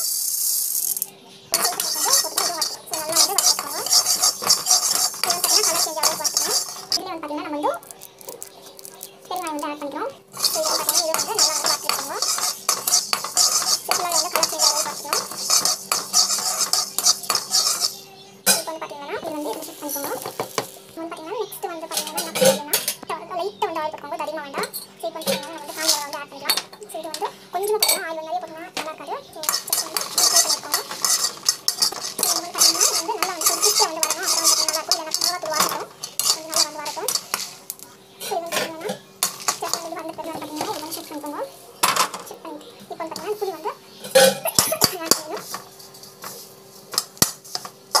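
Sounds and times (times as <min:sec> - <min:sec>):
spatula scraping metal pan: 0:00.0 - 0:07.0, 0:10.2 - 0:20.7, 0:21.9 - 0:23.0, 0:24.7 - 0:28.0, 0:29.3 - 0:42.2, 0:43.0 - 0:48.0
dry seeds rattling in pan: 0:00.0 - 0:20.9, 0:25.2 - 0:28.0, 0:29.3 - 0:42.3, 0:44.5 - 0:48.0.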